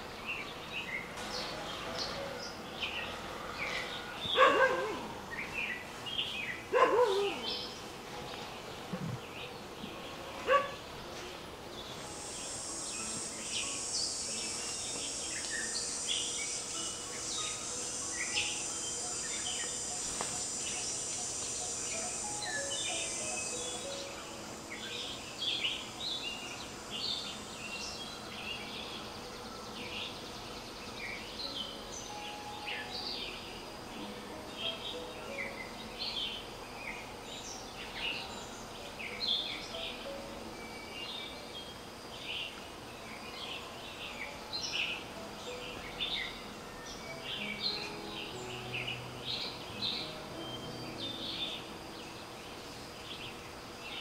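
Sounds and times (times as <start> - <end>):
small birds chirping: 0.0 - 54.0
insect high buzz: 0.1 - 54.0.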